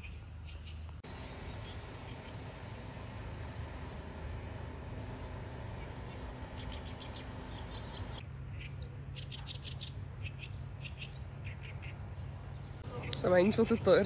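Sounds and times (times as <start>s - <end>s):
small birds chirping: 0.0s - 2.8s, 5.1s - 14.0s
low background hum: 0.0s - 14.0s.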